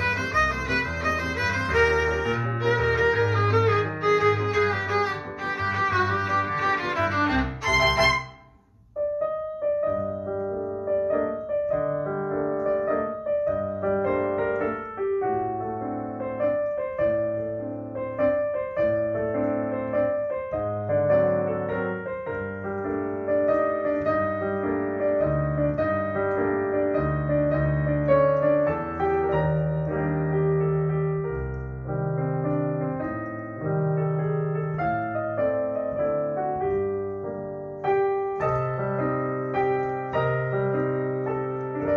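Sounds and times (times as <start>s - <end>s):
piano piece: 0.0s - 41.9s.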